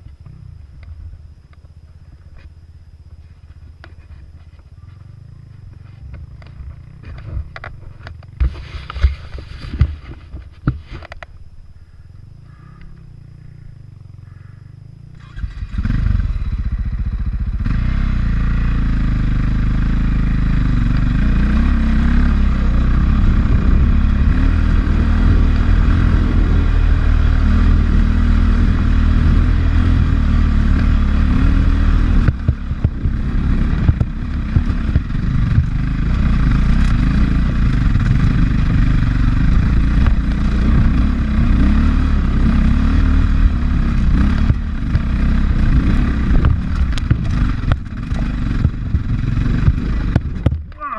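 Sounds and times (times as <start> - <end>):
dirt bike engine running hard: 0.0 - 50.9.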